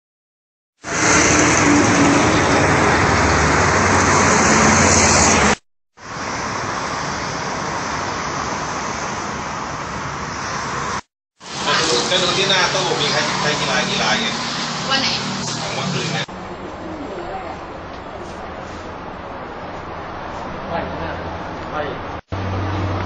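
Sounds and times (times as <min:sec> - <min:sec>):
steady rushing background noise: 0:00.9 - 0:23.0.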